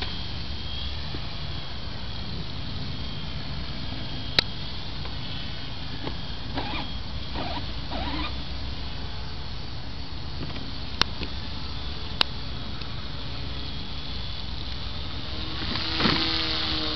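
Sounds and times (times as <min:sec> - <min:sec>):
small aircraft motor whine: 0:00.0 - 0:16.9.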